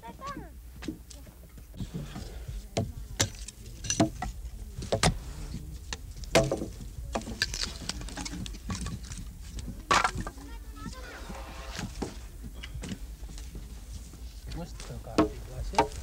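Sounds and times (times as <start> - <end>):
firewood knocking and clattering: 0.0 - 16.0.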